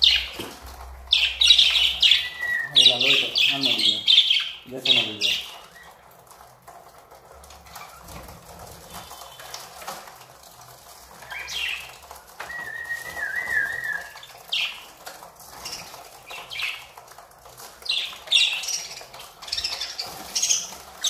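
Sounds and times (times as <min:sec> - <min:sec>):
wings fluttering: 0:00.0 - 0:21.0.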